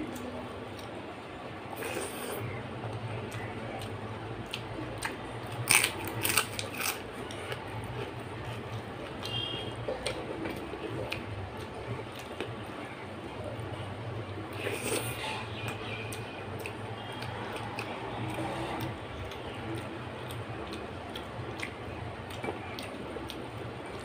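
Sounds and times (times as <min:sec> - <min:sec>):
chewing and wet mouth sounds: 0:00.0 - 0:24.0
steady low hum: 0:00.0 - 0:24.0.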